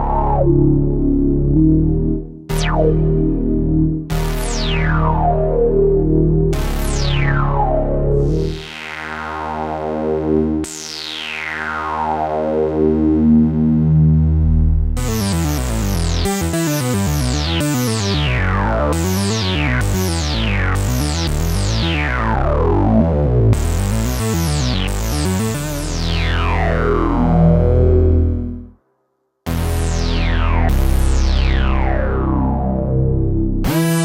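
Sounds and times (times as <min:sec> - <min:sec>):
synthesizer notes with filter sweeps: 0:00.0 - 0:28.8, 0:29.5 - 0:34.0.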